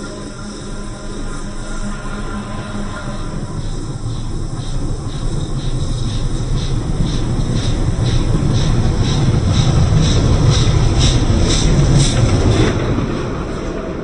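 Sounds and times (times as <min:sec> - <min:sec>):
steam train rumble: 0:00.0 - 0:14.0.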